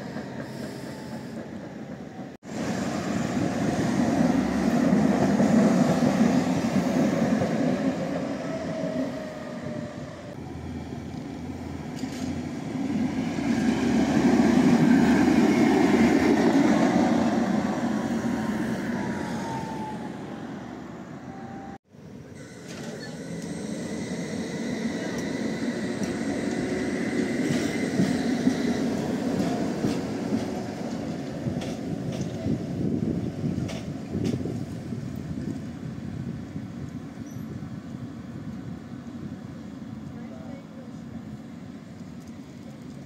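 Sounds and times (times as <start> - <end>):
pitch-sliding tram whine: 0.0 - 40.0
tram wheels rumbling on tracks: 0.0 - 43.0.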